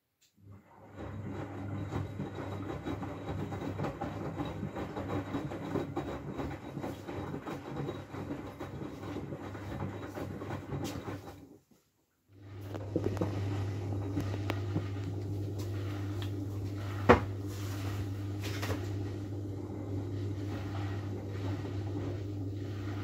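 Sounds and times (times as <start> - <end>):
washing machine motor hum: 0.3 - 11.7, 12.3 - 23.0
water sloshing and laundry churning: 0.5 - 11.7, 12.3 - 23.0.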